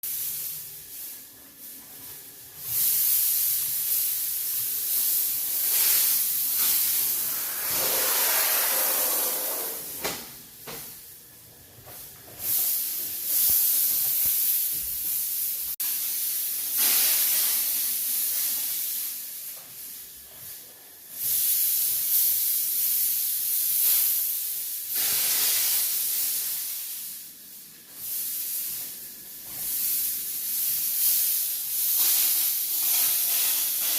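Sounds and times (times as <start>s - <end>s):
sprayer hissing: 0.0s - 10.2s, 12.3s - 20.4s, 21.2s - 33.9s.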